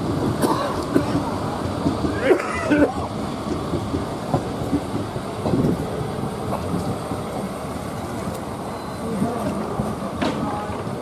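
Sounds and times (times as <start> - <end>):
train rumbling on rails: 0.0 - 11.0
wheels clicking and knocking: 0.0 - 11.0.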